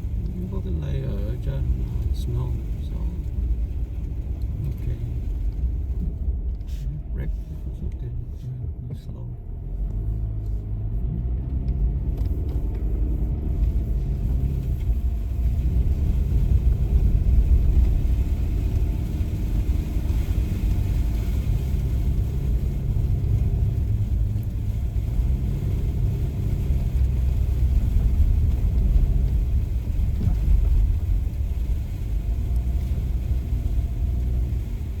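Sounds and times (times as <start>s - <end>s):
car engine hum: 0.0s - 35.0s
road noise: 0.0s - 35.0s.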